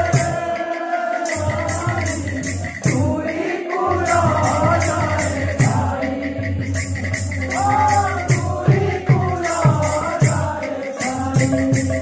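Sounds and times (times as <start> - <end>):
drum beat: 0.0 - 12.0
jingling metal percussion: 0.0 - 12.0
people singing devotional music: 0.0 - 12.0.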